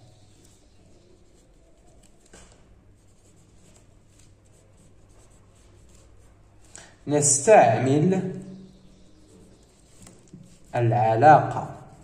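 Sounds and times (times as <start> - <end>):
pen scratching on paper: 0.1 - 12.0.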